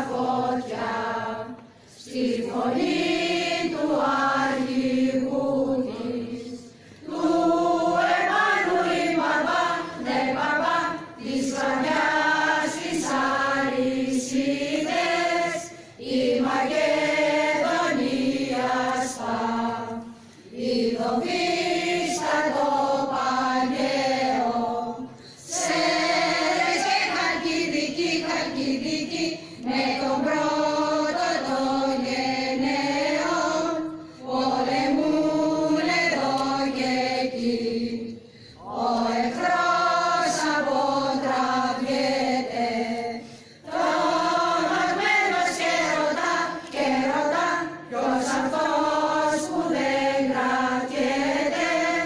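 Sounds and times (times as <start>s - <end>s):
choir singing chant-like piece: 0.0s - 52.0s.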